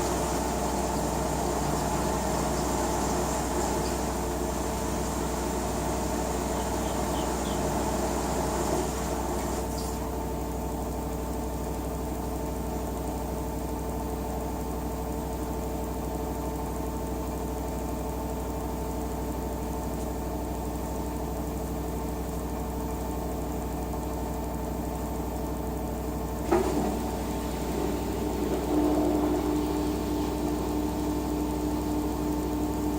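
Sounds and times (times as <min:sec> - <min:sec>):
washing machine motor hum: 0:00.0 - 0:32.9.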